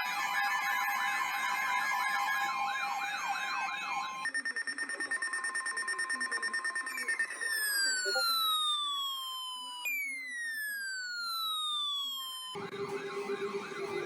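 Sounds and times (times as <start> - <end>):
electronic siren wailing: 0.0 - 4.3, 7.0 - 14.0.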